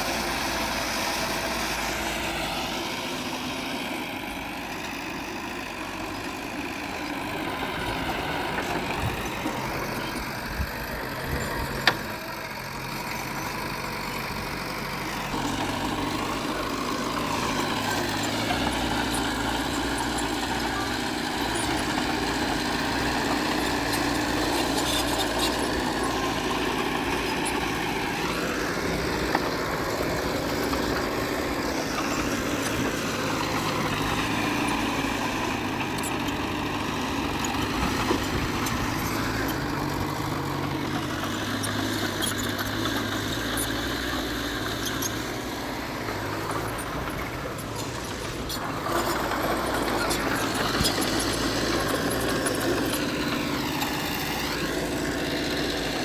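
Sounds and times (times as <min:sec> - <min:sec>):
diesel machinery engine revving: 0:00.0 - 0:56.0.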